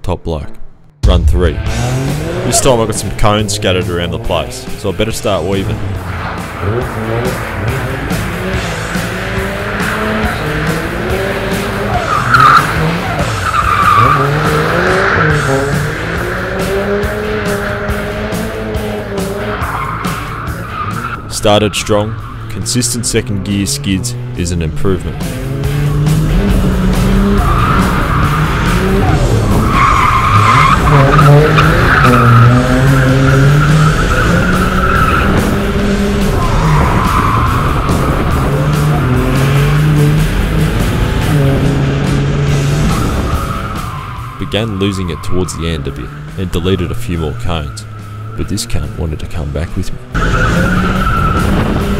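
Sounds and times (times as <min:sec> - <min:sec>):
car engine revving: 0:00.8 - 0:51.9
tyres screeching: 0:01.9 - 0:51.9.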